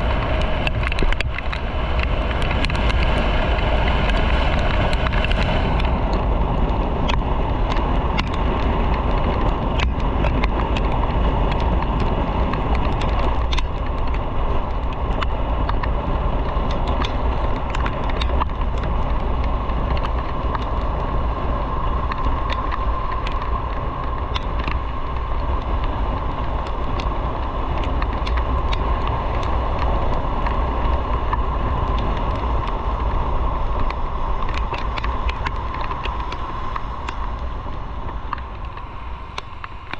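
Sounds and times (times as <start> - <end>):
faint steady whine: 0.0 - 39.9
wind rush on microphone: 0.0 - 39.9
small clicks: 0.1 - 21.0, 21.8 - 39.9.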